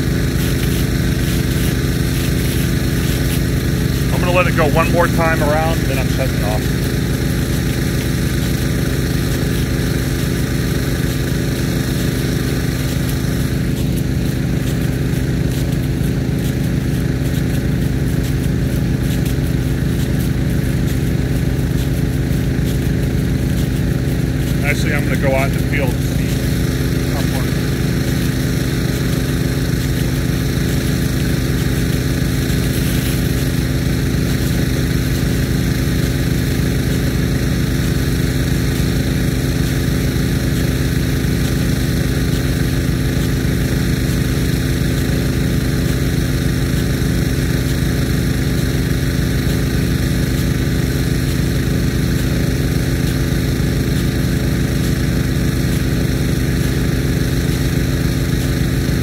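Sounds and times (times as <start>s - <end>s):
pumps humming: 0.0s - 59.0s
sprinkler water jetting: 0.0s - 59.0s.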